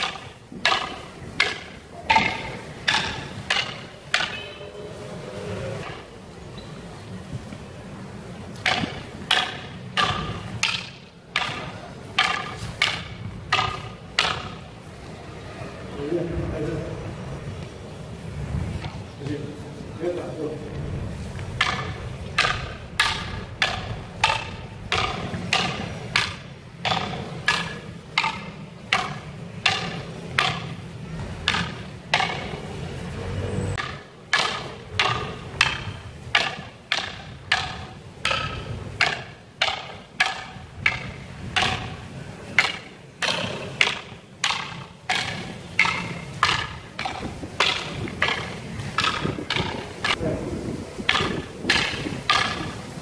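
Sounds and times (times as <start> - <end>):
wooden sticks clacking: 0.0 - 4.8, 5.6 - 15.2, 20.7 - 33.1, 33.7 - 53.0.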